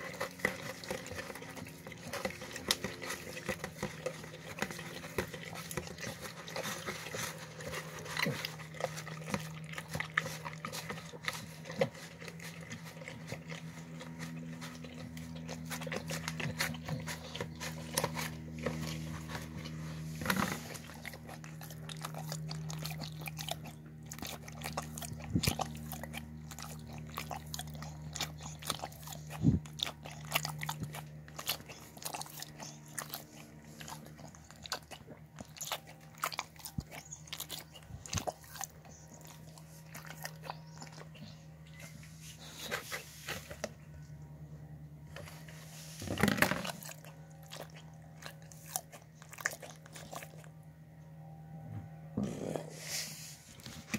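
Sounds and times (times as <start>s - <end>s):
dog chewing and licking: 0.0s - 51.1s, 52.2s - 53.9s
low hum: 0.0s - 53.9s.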